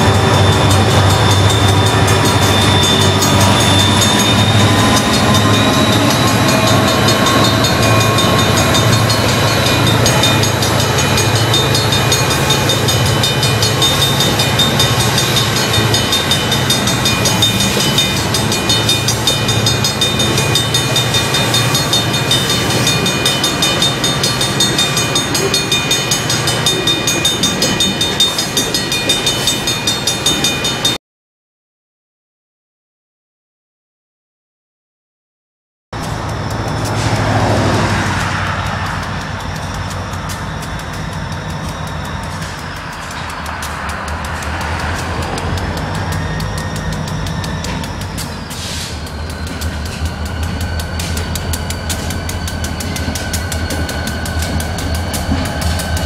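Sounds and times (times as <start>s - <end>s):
diesel locomotive running: 0.0s - 31.0s, 36.0s - 56.0s.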